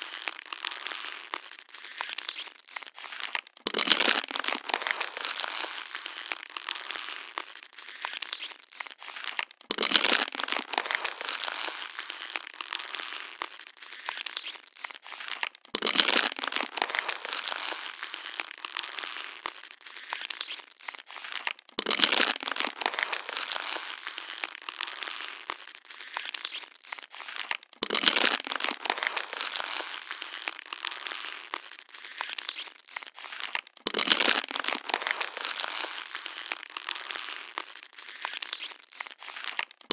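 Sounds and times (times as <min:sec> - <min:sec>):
plastic bottle crinkling: 0:00.0 - 0:39.9
plastic bottle crunch: 0:00.0 - 0:39.9.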